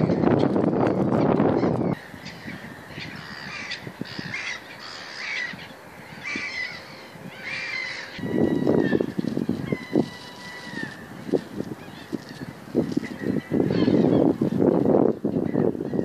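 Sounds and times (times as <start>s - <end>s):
wind buffeting microphone: 0.0s - 16.0s
bird cawing: 1.5s - 14.4s.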